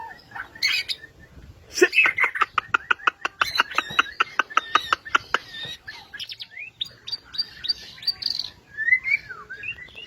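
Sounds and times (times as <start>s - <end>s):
bird singing: 0.0s - 10.0s.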